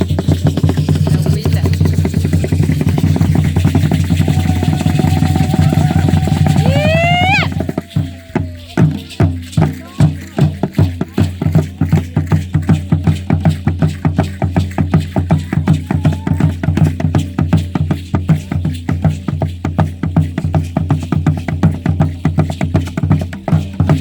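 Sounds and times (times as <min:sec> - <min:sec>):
drum beaten in fast rhythm: 0:00.0 - 0:24.0.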